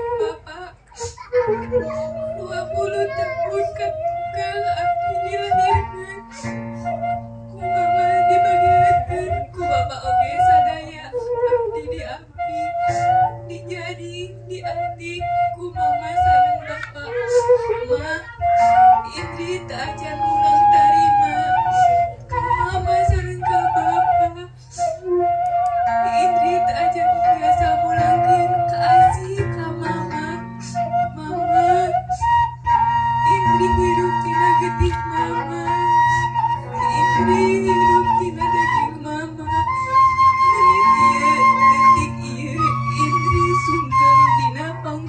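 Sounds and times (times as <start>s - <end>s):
low musical accompaniment: 0.0s - 45.0s
slow sung melody: 0.0s - 45.0s.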